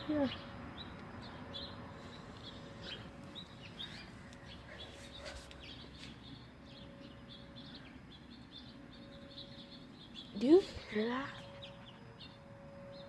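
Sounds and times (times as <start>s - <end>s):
birds chirping faintly: 0.0s - 13.0s
faint steady hum: 0.0s - 13.0s.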